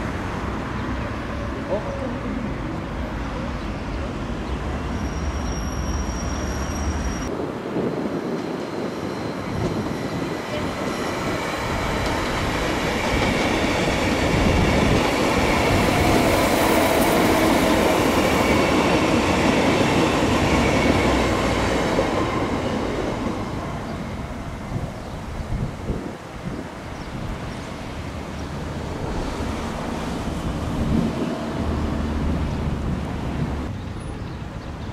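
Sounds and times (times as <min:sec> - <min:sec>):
electric train passing: 0:00.0 - 0:34.2
train wheels whining on rails: 0:04.3 - 0:34.1.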